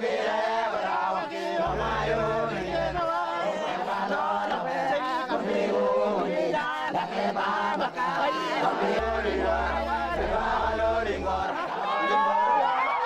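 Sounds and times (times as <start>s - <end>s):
men shouting and chanting: 0.3s - 13.0s.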